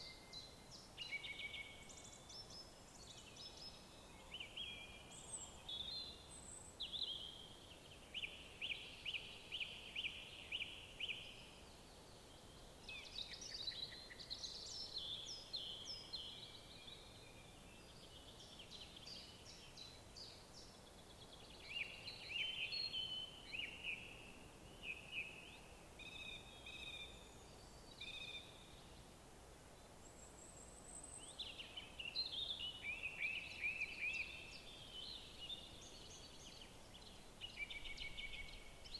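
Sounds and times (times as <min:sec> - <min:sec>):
faint background hiss: 0:00.0 - 0:38.9
songbirds chirping and trilling: 0:00.0 - 0:38.9.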